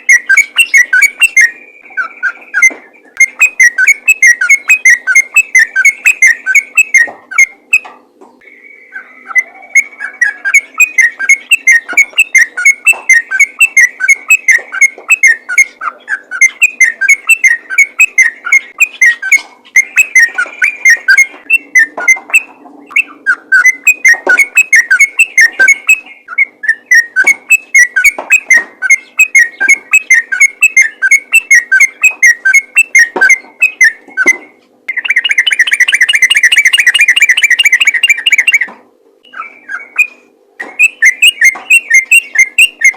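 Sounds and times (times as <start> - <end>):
bulbul singing whistled notes: 0.0 - 7.8, 8.4 - 42.9.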